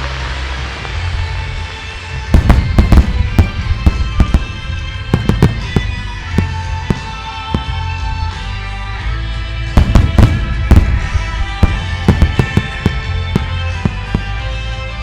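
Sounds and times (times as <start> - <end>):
fireworks bursting with loud bangs: 0.0 - 9.1, 9.7 - 15.0
music over loudspeakers: 0.0 - 15.0.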